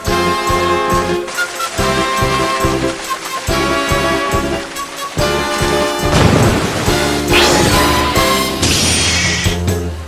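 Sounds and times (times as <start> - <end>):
dramatic soundtrack music: 0.0 - 10.0.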